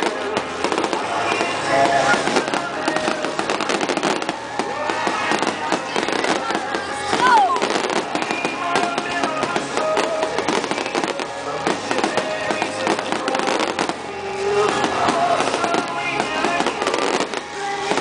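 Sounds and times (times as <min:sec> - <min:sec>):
fireworks bangs and crackling: 0:00.0 - 0:18.0
music: 0:00.0 - 0:18.0
voices: 0:00.0 - 0:18.0.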